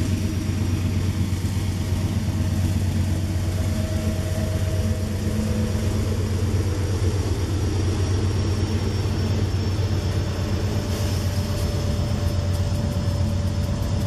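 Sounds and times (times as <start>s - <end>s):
locomotive engines humming: 0.0s - 14.0s.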